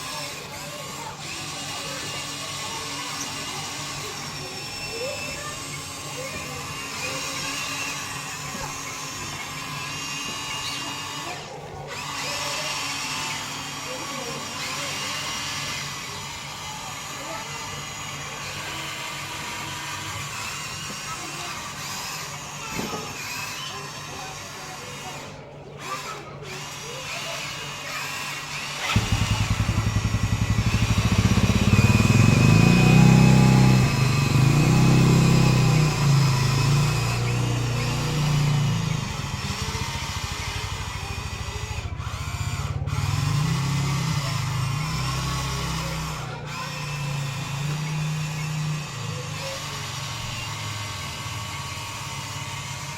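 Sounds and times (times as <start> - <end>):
toy excavator motors whirring: 0.0 - 52.9.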